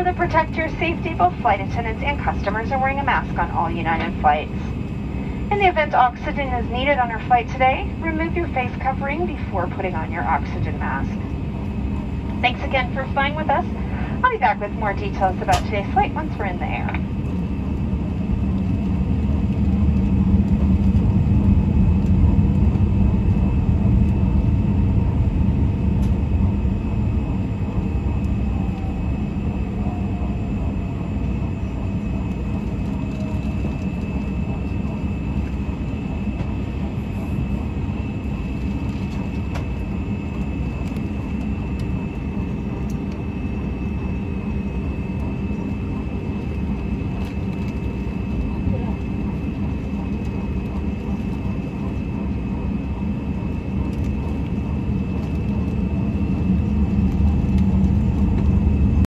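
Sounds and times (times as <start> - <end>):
faint high whine: 0.0 - 59.0
jet engine cabin rumble: 0.0 - 59.0.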